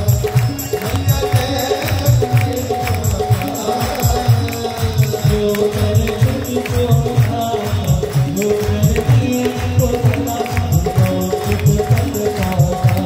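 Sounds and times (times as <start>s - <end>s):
jingling hand percussion: 0.0s - 13.0s
steady drum beat: 0.0s - 13.0s.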